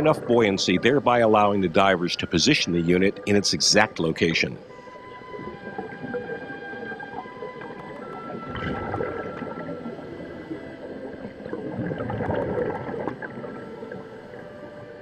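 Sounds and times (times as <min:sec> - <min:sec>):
sustained steady tones: 0:00.0 - 0:15.0
underwater bubbling and gurgling: 0:00.0 - 0:15.0.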